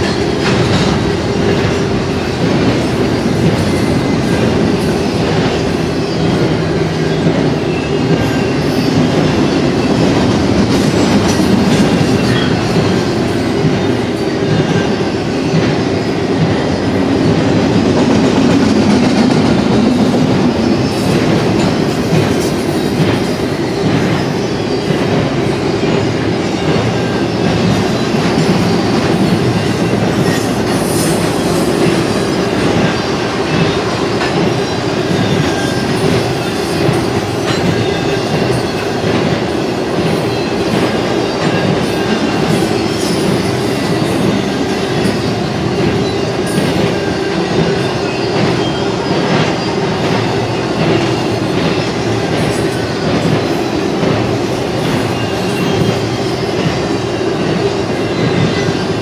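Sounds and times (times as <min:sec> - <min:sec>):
freight train wheels rolling: 0:00.0 - 0:59.0.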